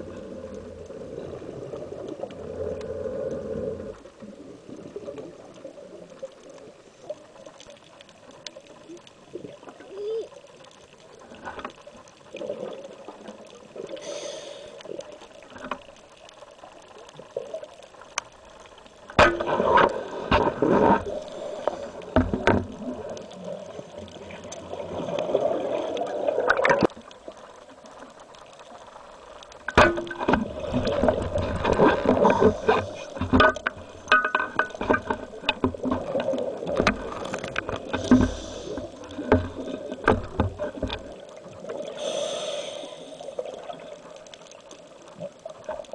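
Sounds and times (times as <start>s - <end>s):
underwater bubbles gurgling: 0.0s - 45.9s.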